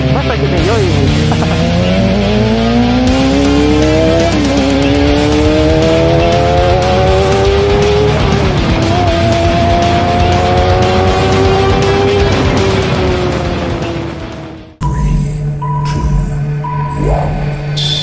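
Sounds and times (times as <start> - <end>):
motorcycle engine accelerating: 0.0 - 14.8.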